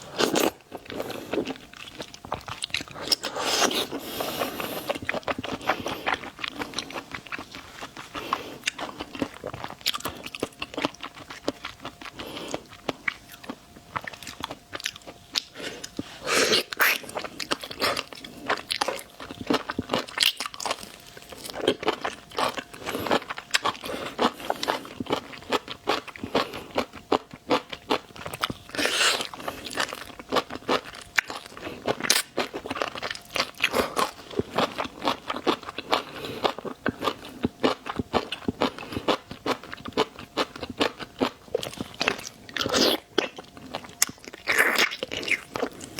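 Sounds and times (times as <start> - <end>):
shrimp crunching being chewed: 0.0 - 45.9.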